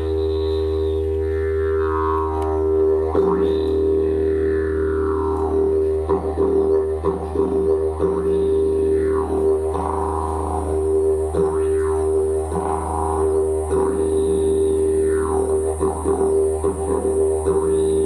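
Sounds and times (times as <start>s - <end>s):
didgeridoo drone: 0.0s - 18.0s.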